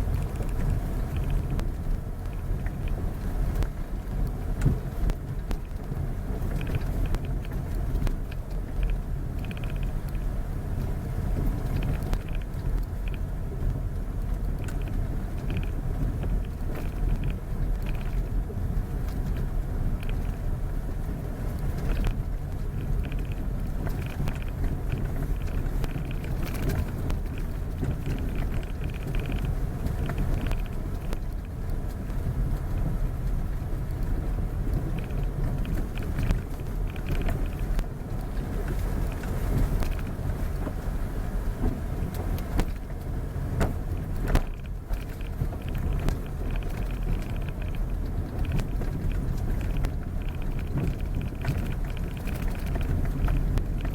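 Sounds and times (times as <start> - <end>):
small clicks and knocks: 0.0 - 18.4, 19.0 - 20.4, 21.6 - 32.9, 33.9 - 40.9, 41.6 - 53.9
vehicle engine and road noise: 0.0 - 53.9.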